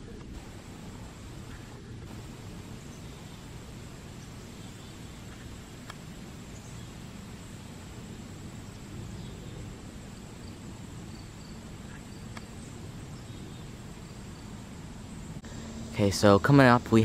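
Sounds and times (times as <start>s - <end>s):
high insect drone: 0.4s - 17.0s.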